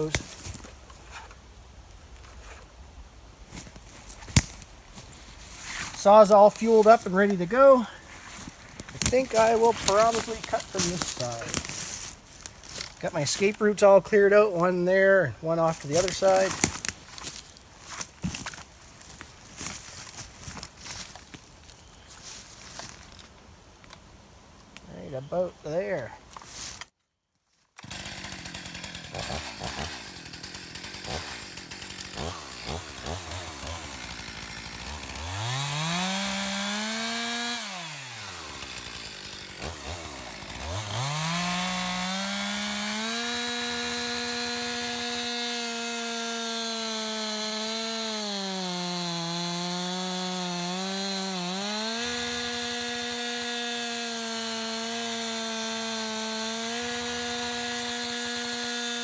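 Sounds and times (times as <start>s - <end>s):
chainsaw cutting into tree trunk: 0.0s - 1.3s, 3.6s - 13.6s, 15.7s - 21.2s, 27.8s - 59.0s.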